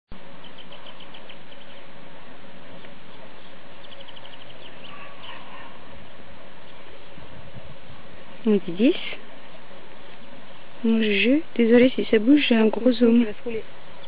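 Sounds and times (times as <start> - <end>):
steady outdoor hiss: 0.1 - 14.0.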